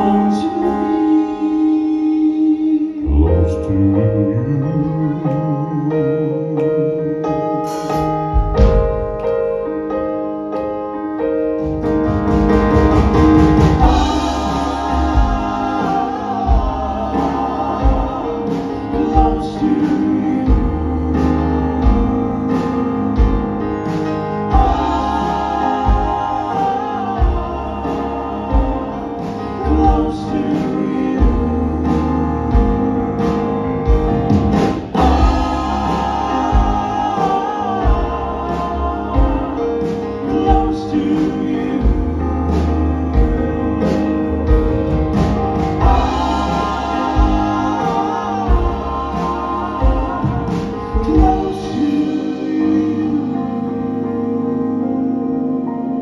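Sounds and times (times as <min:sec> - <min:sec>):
male vocal quartet singing harmony: 0:00.0 - 0:09.0, 0:12.8 - 0:56.0
keyboard piano chords: 0:00.0 - 0:56.0.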